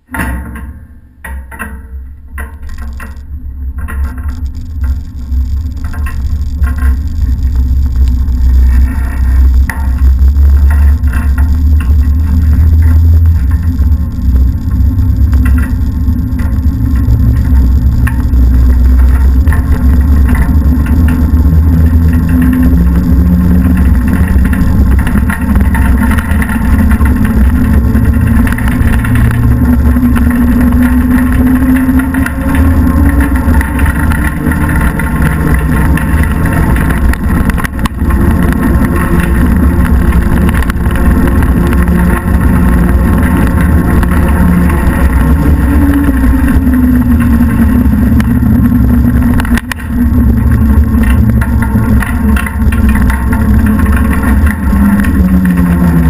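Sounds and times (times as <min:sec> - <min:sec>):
wheels rumbling on asphalt: 0:00.0 - 0:56.0
faint drifting hum: 0:01.9 - 0:56.0.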